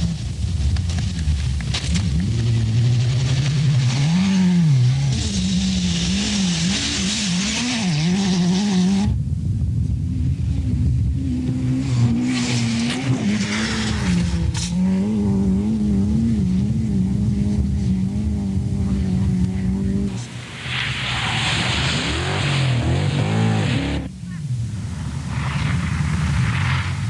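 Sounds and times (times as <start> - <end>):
rally car engine revving: 0.0 - 9.2, 10.4 - 24.2
gravel and tyres hissing: 0.0 - 27.0.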